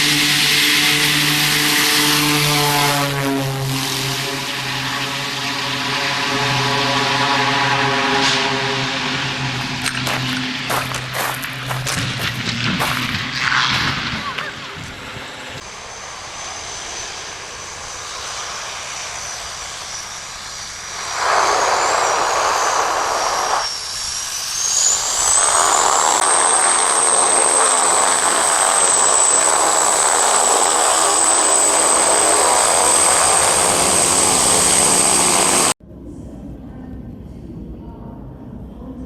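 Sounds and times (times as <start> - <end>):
aircraft engine and propeller: 0.0 - 35.8.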